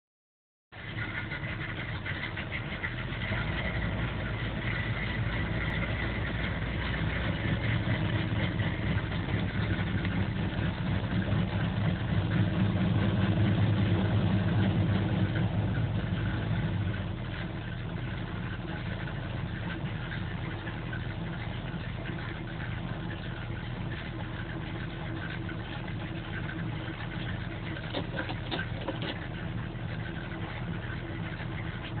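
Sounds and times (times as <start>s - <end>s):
truck engine idling: 0.7s - 32.0s.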